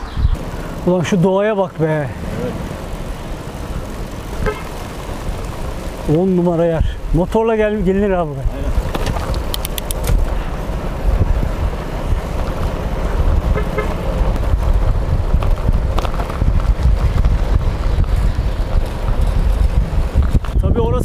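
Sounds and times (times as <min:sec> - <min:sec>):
wind buffeting microphone: 0:00.0 - 0:01.2, 0:02.2 - 0:21.0.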